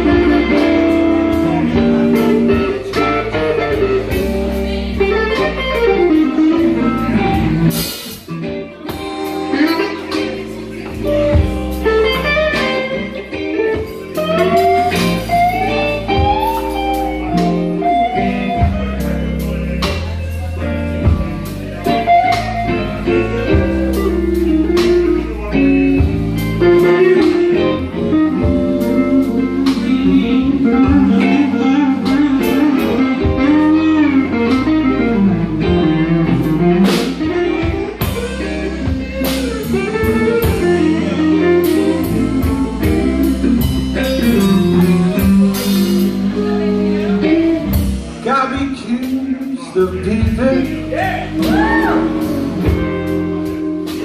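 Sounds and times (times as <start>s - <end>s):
blues band playing: 0.0s - 54.0s
electric guitar lead: 0.0s - 54.0s.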